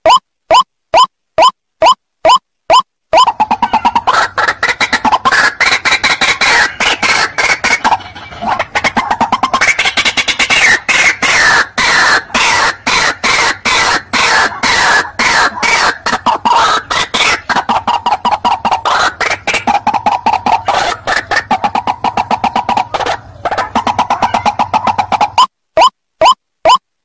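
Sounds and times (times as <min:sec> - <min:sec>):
bird croaking calls: 0:03.2 - 0:25.5.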